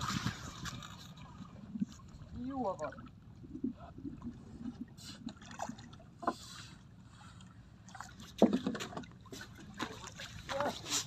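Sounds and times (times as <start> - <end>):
boat engine rumble: 0.0 - 11.0
water sloshing against hull: 0.0 - 11.0.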